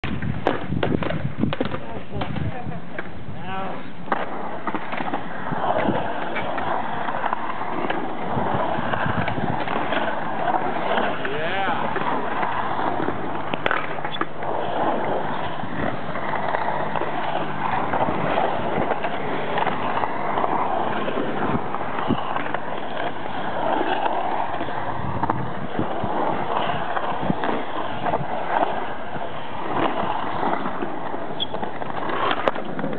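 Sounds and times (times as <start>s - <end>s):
skateboard clacks: 0.0s - 32.9s
skateboard wheels rolling on concrete: 0.0s - 32.9s.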